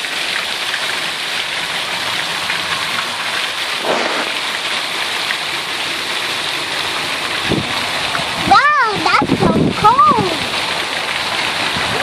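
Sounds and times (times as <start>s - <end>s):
water rushing down channel: 0.0s - 12.0s.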